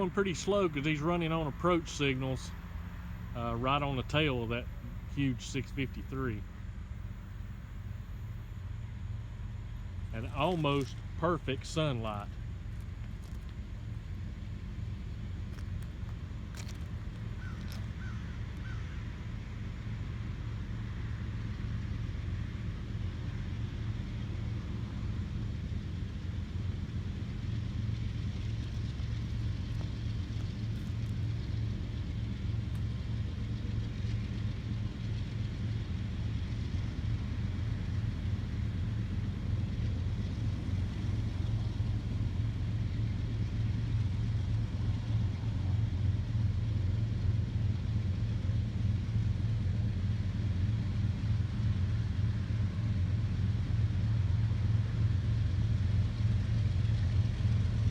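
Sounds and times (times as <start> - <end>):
diesel locomotive engine drone: 0.0 - 57.9.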